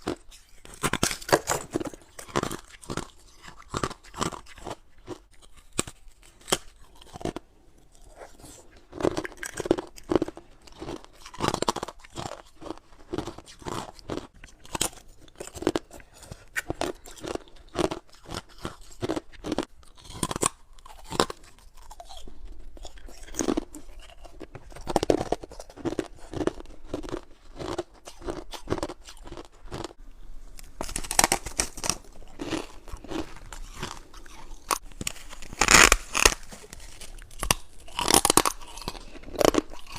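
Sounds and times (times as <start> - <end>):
crunching and chewing ice: 0.0 - 30.0, 30.6 - 39.9.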